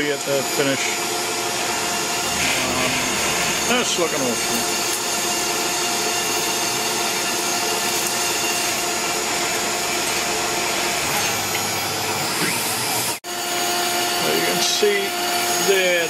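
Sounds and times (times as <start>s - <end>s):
mill spindle whining: 0.0s - 16.0s.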